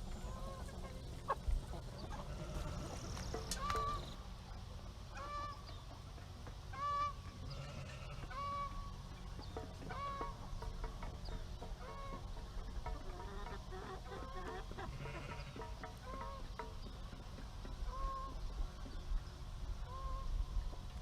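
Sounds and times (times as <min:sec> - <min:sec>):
farm fowl calling: 0:00.0 - 0:20.9.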